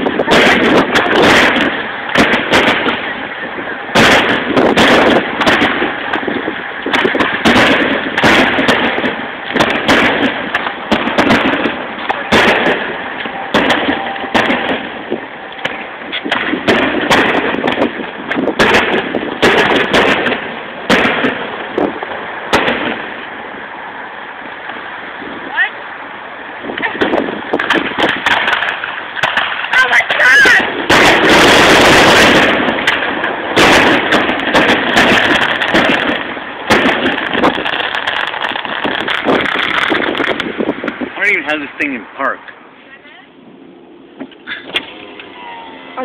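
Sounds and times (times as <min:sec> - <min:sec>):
fireworks bangs and booms: 0:00.0 - 0:42.6
fireworks crackling: 0:00.0 - 0:46.0.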